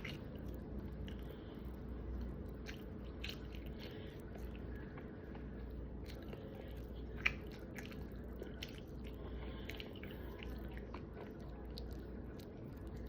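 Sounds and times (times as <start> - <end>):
chewing and biting meat: 0.0 - 13.0
faint low hum: 0.0 - 13.0.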